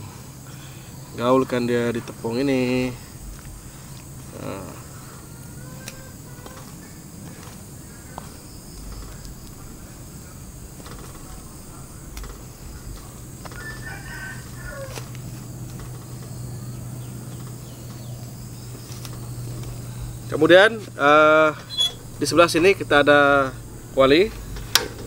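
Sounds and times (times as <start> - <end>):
steady low hum: 0.0 - 25.0
bird calling: 1.9 - 24.8.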